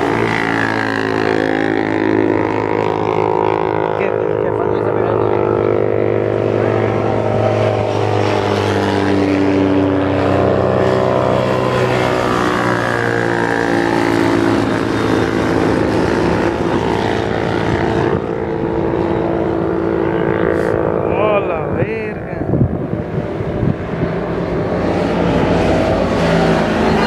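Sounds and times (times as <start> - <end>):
motorcycle engines passing: 0.0 - 27.0.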